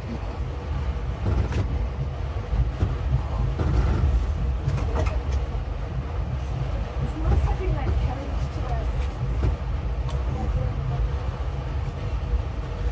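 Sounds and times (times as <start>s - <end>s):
train interior rumble: 0.0s - 12.9s.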